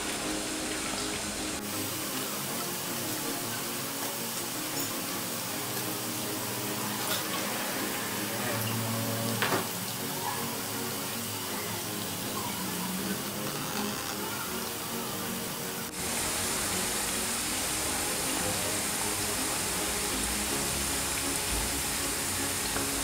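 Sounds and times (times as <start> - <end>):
eggplant frying in hot oil: 0.1 - 15.2, 15.8 - 23.0.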